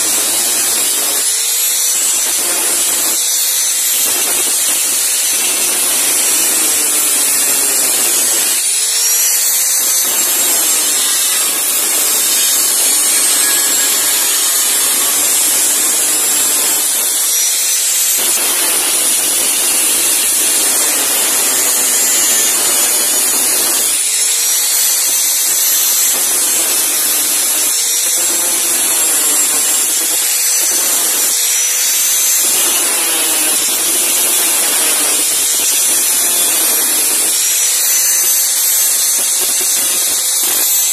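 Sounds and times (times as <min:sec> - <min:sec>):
angle grinder cutting steel: 0:00.0 - 0:40.9.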